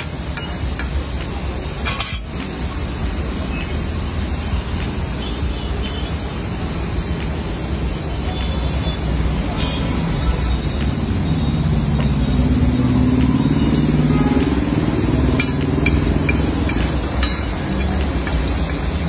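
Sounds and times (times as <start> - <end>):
food sizzling on a griddle: 0.0 - 19.0.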